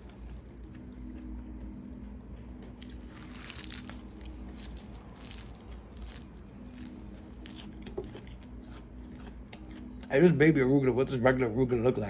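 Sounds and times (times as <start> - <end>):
person chewing crunchy leaves: 0.0 - 10.3.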